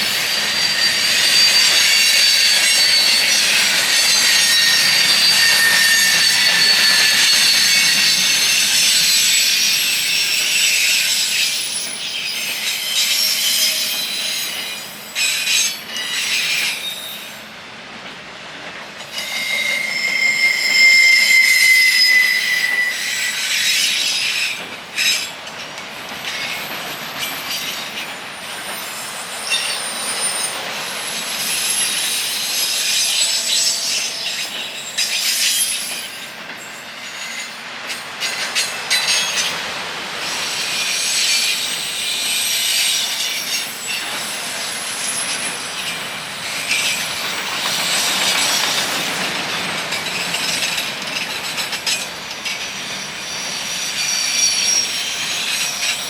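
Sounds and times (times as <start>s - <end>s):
wheels squealing against rails: 0.0s - 17.6s, 19.0s - 56.0s
train cars rolling past: 0.0s - 56.0s.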